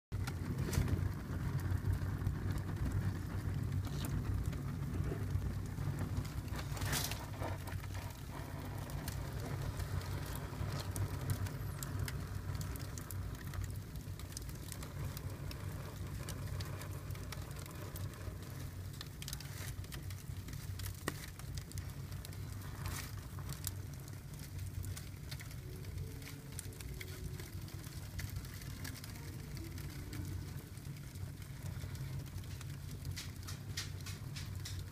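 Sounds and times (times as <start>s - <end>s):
fire hissing and crackling: 0.1s - 34.9s
low rumble: 0.1s - 34.9s
sharp pops of fire: 0.2s - 34.9s.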